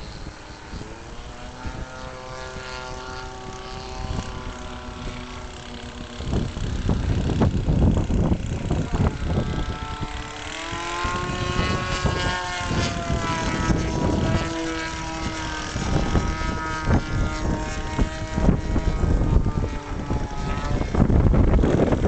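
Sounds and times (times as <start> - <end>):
model aircraft engine in flight: 0.0 - 22.0
wind buffeting microphone: 0.0 - 22.0.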